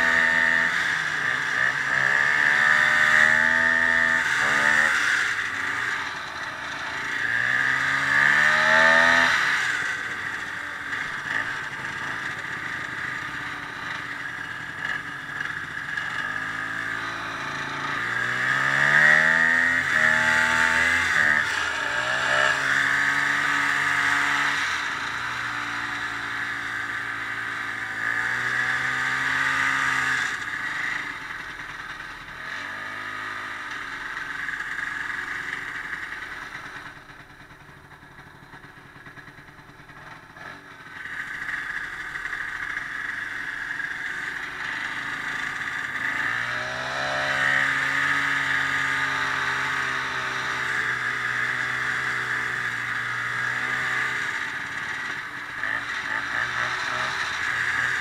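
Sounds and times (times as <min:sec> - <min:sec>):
snowmobile engine revving: 0:00.0 - 0:35.9, 0:40.3 - 0:58.0.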